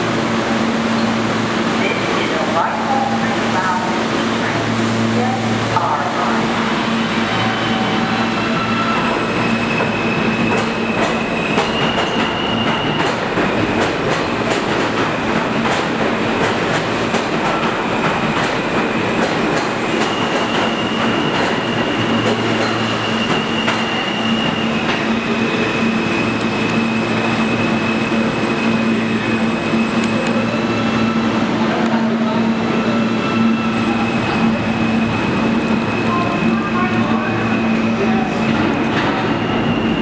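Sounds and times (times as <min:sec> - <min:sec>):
subway train rumble and rail clatter: 0:00.0 - 0:40.0.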